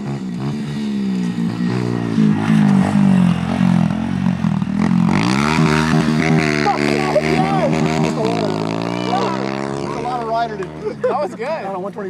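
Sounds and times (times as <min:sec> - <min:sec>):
pit bike engine revving: 0:00.0 - 0:11.8.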